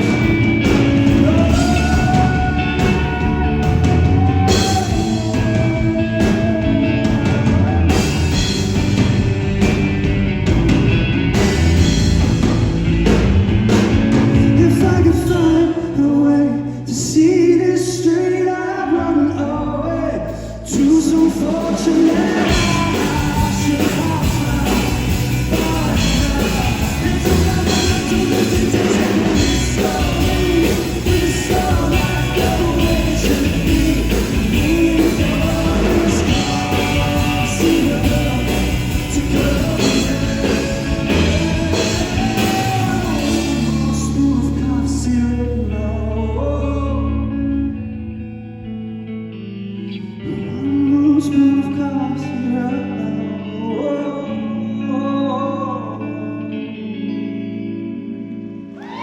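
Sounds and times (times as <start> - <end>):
live rock band with singing: 0.0 - 59.0.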